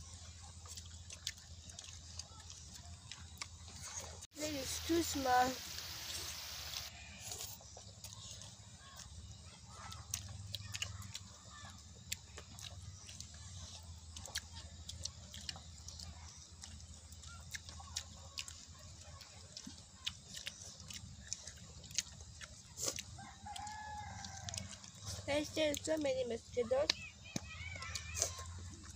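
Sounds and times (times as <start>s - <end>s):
children chewing and lip smacking: 0.0s - 28.9s.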